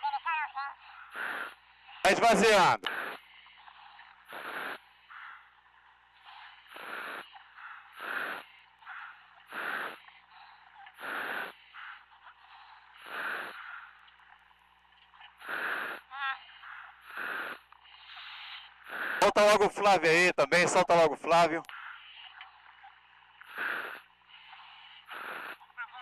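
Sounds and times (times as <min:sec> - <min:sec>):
diver breathing in helmet: 0:00.6 - 0:19.4, 0:21.6 - 0:26.0.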